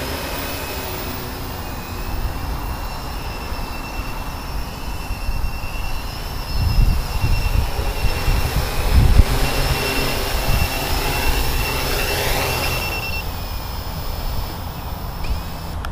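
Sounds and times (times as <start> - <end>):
drone motors high whine: 0.0 - 15.9
wind rumble on microphone: 1.8 - 15.7.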